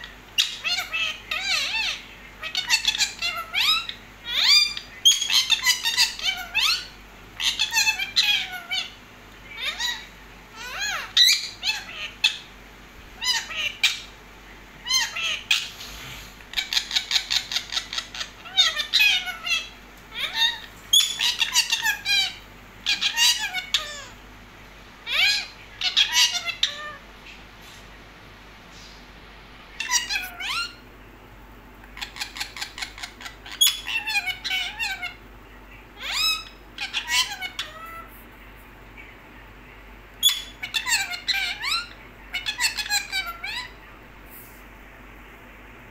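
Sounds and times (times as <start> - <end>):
parakeets squawking and chattering: 0.0 - 28.1, 28.7 - 30.9, 31.7 - 44.7.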